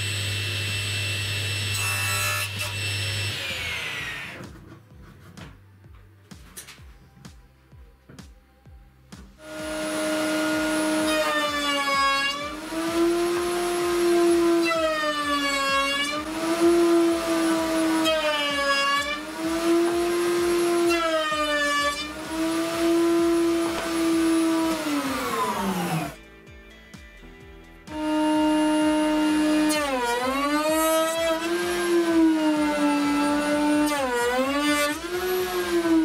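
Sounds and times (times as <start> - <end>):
router cutting wood: 0.0 - 4.5, 9.4 - 26.2, 27.8 - 36.0
wood router whining: 0.0 - 4.6, 9.4 - 26.2, 27.8 - 36.0.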